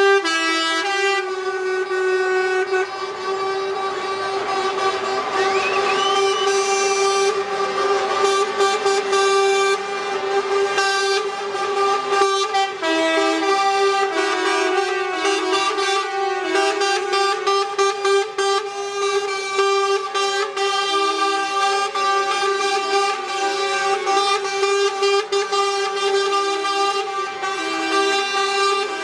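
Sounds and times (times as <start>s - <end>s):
horn toots: 0.0s - 29.0s
truck air horns chord: 0.0s - 29.0s.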